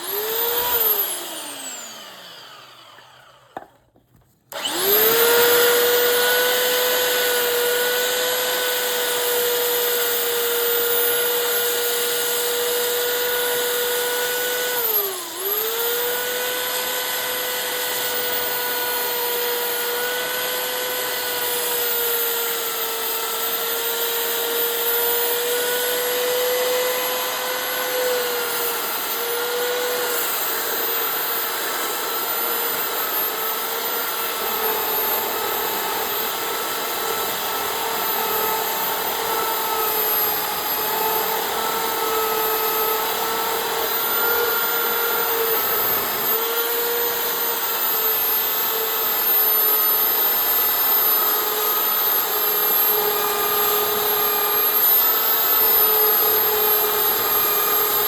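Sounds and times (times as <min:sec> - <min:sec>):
power tool motor whine: 0:00.0 - 0:03.8, 0:04.5 - 0:58.0.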